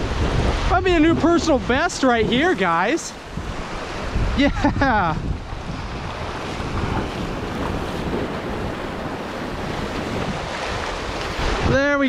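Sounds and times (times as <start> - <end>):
ocean surf washing over beach: 0.0 - 12.0
wind buffeting microphone: 0.0 - 12.0.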